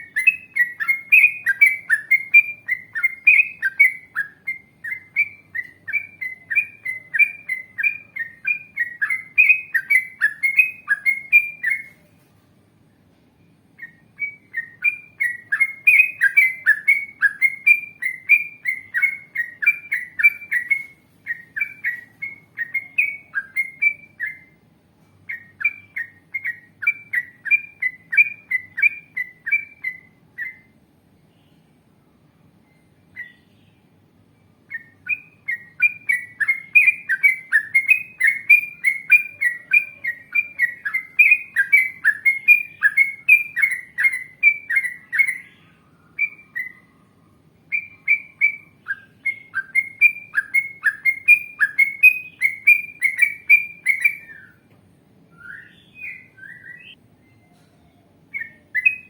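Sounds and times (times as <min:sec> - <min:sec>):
bird chirping song: 0:00.0 - 0:59.0.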